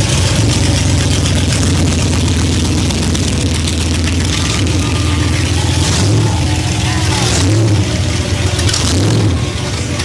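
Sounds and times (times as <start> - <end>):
car engines idling: 0.0 - 10.0.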